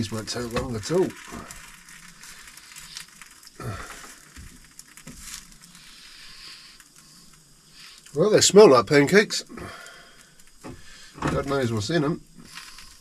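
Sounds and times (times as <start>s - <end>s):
faint sizzling: 0.0s - 13.0s
gas stove hissing: 0.0s - 13.0s.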